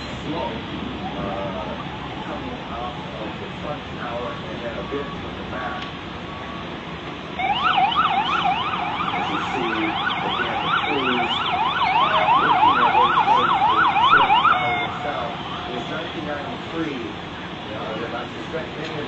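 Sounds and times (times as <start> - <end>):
emergency siren yelping: 0.0 - 17.1.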